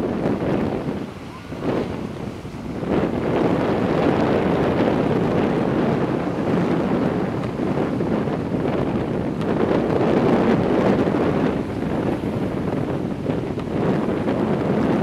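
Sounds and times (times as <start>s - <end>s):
breaking surf: 0.0s - 15.0s
wind buffeting microphone: 0.0s - 15.0s.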